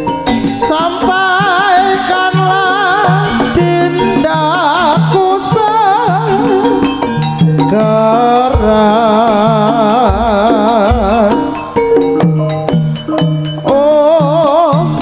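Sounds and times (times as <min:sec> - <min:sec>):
high wavering melody: 0:00.0 - 0:15.0
struck percussion beat: 0:00.0 - 0:15.0.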